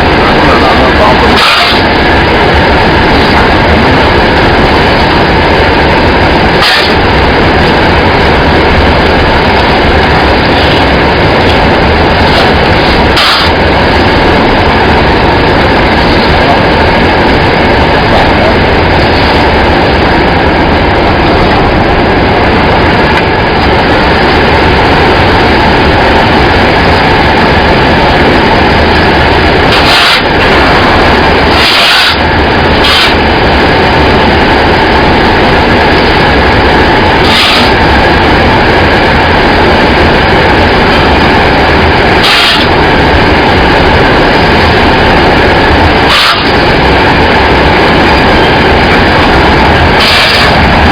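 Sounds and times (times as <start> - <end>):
furnace machinery running: 0.0 - 50.9.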